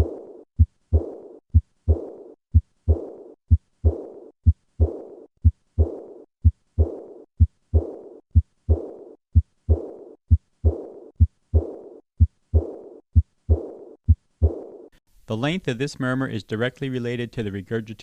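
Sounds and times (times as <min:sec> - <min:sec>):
heartbeat sounds: 0:00.0 - 0:14.9
high-pitched heart murmur: 0:00.0 - 0:14.9.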